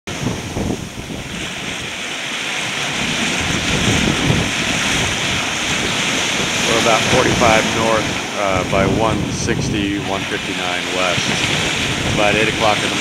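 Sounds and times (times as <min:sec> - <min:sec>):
rushing sea waves: 0:00.1 - 0:13.0
water streaming past hull: 0:00.1 - 0:13.0
wind buffeting microphone: 0:00.1 - 0:13.0.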